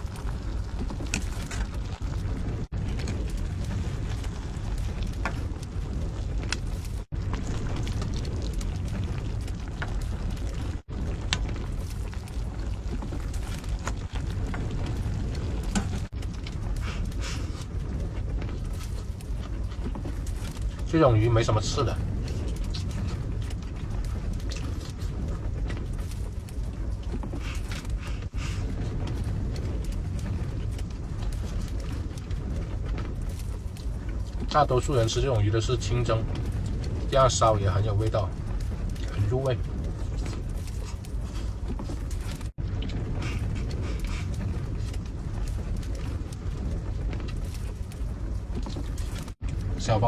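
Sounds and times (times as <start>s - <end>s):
strong wind rumble: 0.0s - 50.0s.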